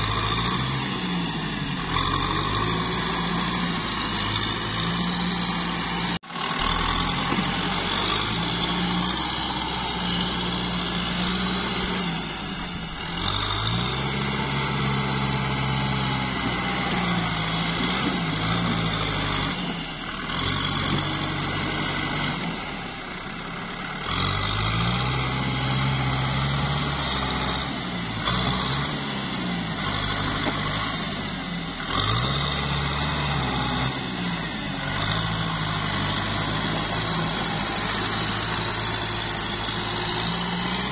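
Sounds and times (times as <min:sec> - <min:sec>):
tractor diesel engine revving: 0:00.0 - 0:40.9.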